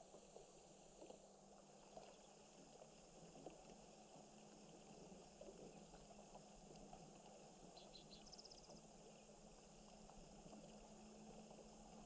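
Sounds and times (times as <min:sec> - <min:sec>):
faint hiss and hum: 0:00.0 - 0:12.0.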